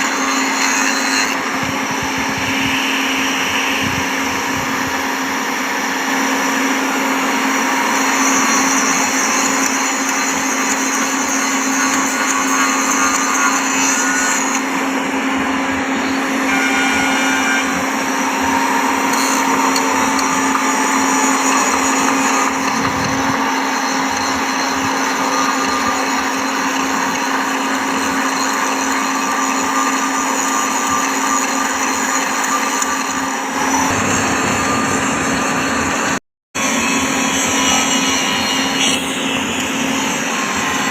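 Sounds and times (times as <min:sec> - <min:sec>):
power grinder grinding steel: 0:00.0 - 0:40.9.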